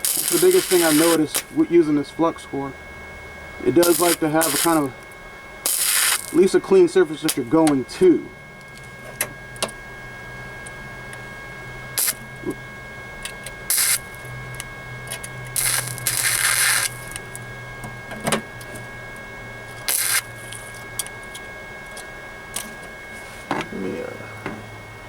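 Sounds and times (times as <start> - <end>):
welding arc crackling hiss: 0.0 - 2.7, 3.6 - 9.2, 10.5 - 22.9
low hum: 0.0 - 25.0.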